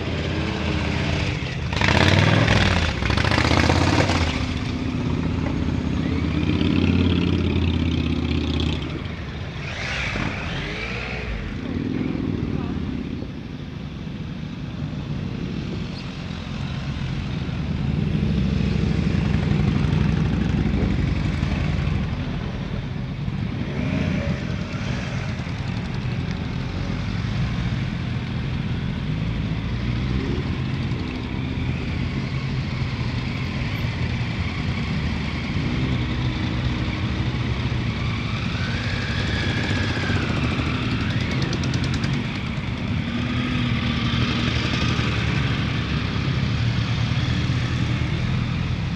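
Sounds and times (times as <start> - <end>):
motorcycles riding past slowly: 0.0 - 48.9.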